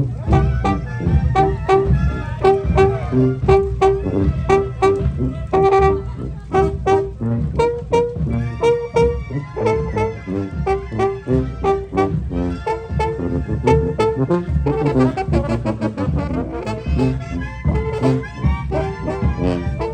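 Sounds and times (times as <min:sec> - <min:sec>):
brass instruments playing melody: 0:00.0 - 0:19.9
drum beats: 0:00.0 - 0:19.9.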